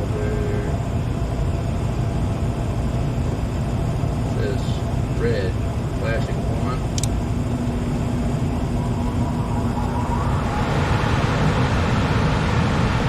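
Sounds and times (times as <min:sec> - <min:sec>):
furnace fan motor humming: 0:00.0 - 0:13.0.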